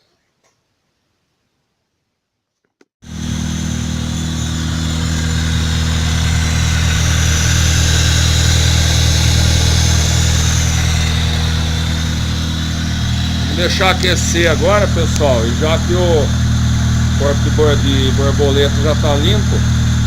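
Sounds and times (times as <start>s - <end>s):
car engine idling: 3.0s - 20.0s.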